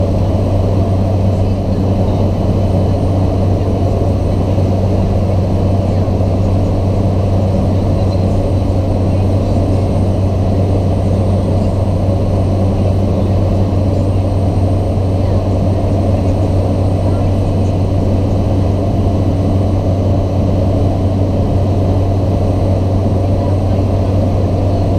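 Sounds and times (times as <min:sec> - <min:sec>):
turboprop engine droning: 0:00.0 - 0:24.9.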